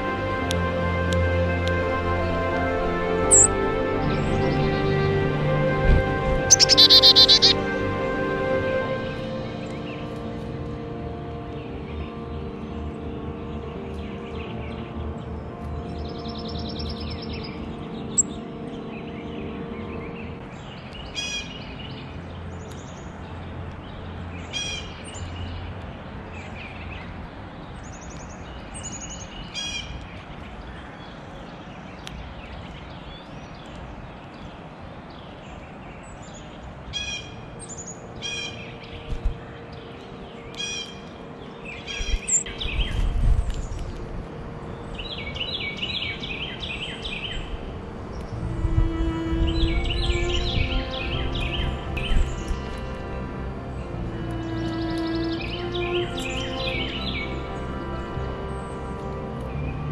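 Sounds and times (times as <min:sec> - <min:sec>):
small songbirds chirping: 0:00.0 - 0:59.9.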